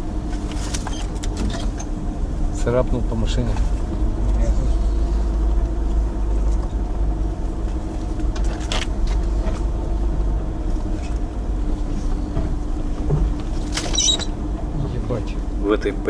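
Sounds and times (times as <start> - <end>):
car engine drone: 0.0 - 16.0
road rumble: 0.0 - 16.0.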